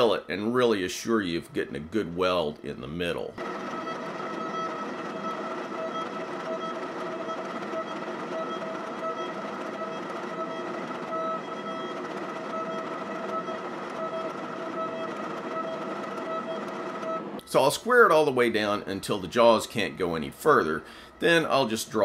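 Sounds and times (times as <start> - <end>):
hydraulic press whining: 3.2 - 22.0.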